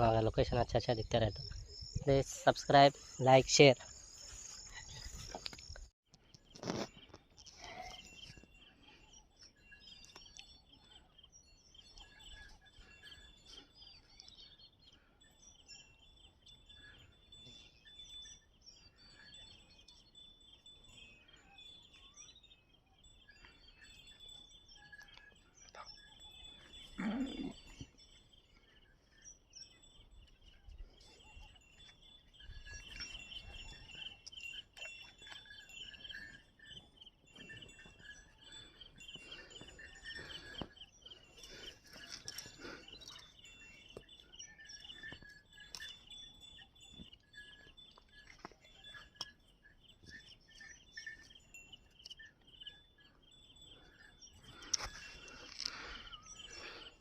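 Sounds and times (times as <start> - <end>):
faint outdoor background noise: 0.0 - 57.0
small birds chirping: 0.0 - 57.0.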